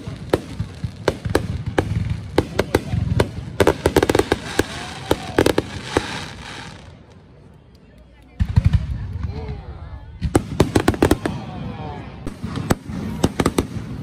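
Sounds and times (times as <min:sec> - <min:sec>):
fireworks bangs and crackles: 0:00.0 - 0:07.4, 0:08.2 - 0:14.0.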